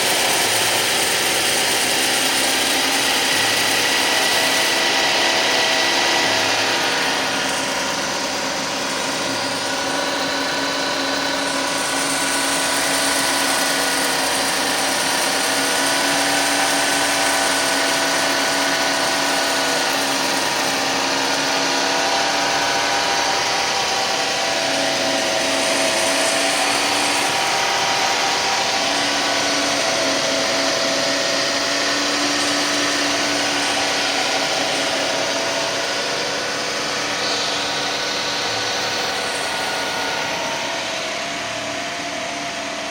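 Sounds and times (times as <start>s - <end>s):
grinding sound: 0.0s - 42.9s
steady whining tones: 0.0s - 42.9s.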